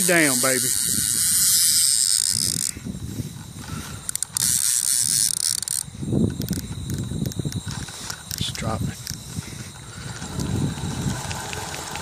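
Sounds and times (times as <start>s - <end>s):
fishing reel spool whirring: 0.0s - 12.0s
reel clicks: 0.0s - 12.0s.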